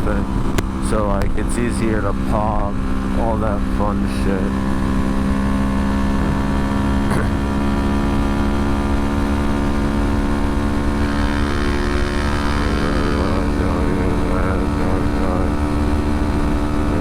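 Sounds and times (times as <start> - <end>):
motorcycle engine cruising: 0.0 - 17.0
wind rumble on microphone: 0.0 - 17.0.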